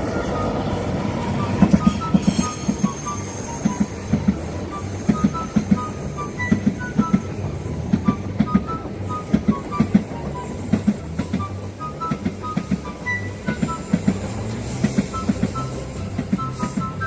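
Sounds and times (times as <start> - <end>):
high wheel squeals: 0.0 - 17.0.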